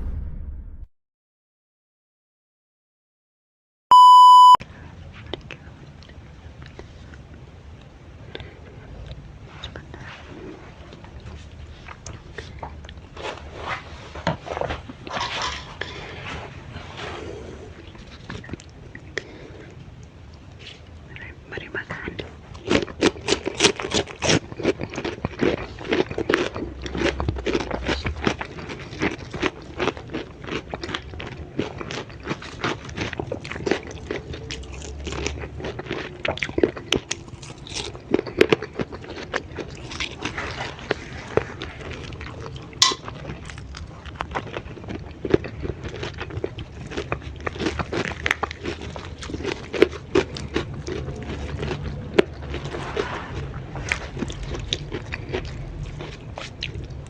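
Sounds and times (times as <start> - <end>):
person chewing crunchy food: 5.1 - 57.0.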